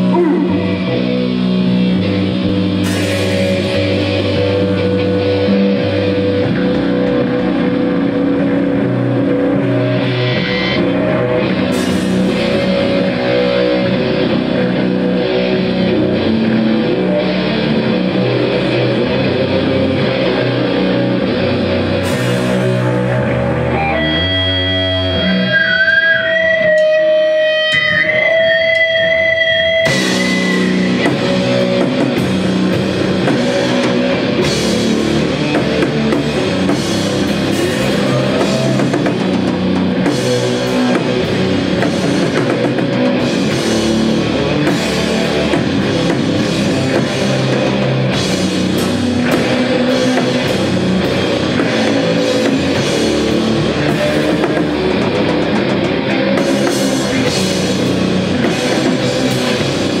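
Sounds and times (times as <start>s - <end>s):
live heavy rock band: 0.0s - 60.0s.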